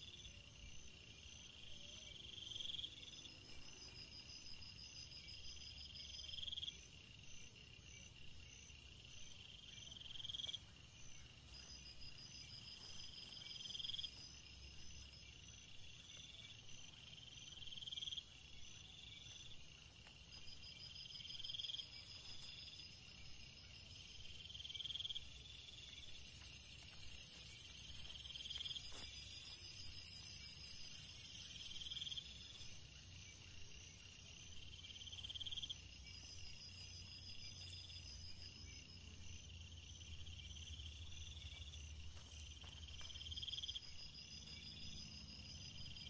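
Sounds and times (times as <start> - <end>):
crickets trilling: 0.0 - 46.0.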